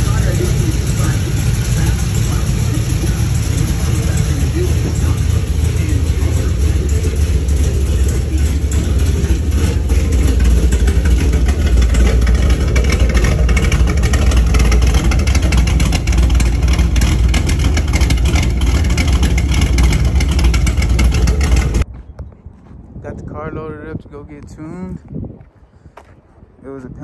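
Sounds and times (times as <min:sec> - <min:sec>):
car engine running: 0:00.0 - 0:22.2.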